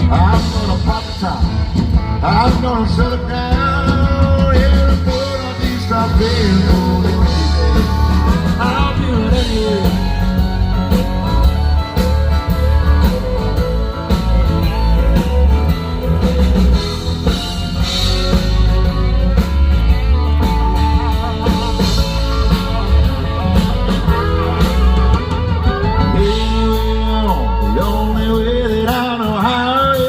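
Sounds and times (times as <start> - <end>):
live country-rock band playing: 0.0 - 30.0.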